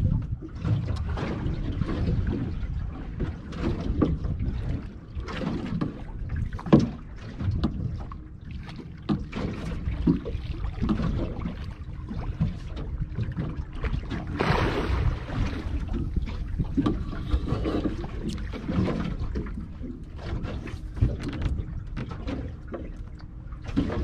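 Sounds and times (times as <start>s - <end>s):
wind buffeting microphone: 0.0s - 8.2s, 9.8s - 22.1s
knocks and splashes: 0.0s - 24.0s
water slapping against boat hull: 0.0s - 24.0s.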